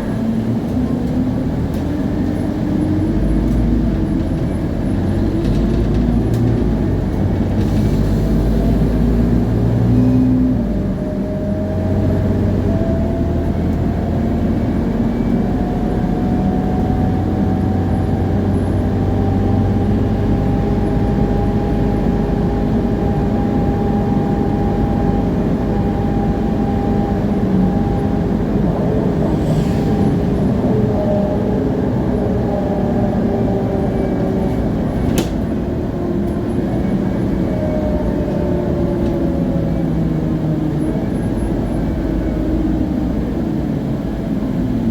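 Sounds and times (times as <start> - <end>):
bus engine and road noise: 0.0 - 44.9.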